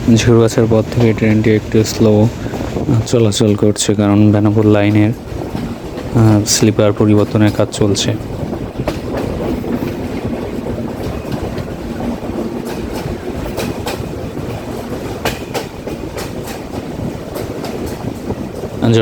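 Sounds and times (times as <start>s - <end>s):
train coaches rumbling: 0.0s - 19.0s
train wheel clicks over rails: 0.0s - 19.0s.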